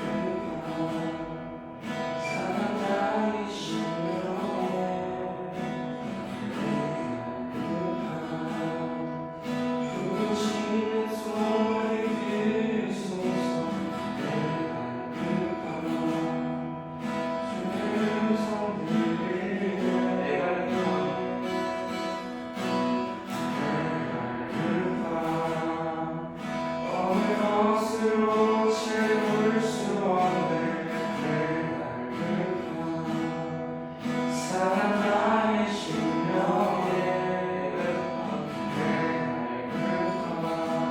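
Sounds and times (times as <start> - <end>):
strummed acoustic guitar: 0.0 - 40.9.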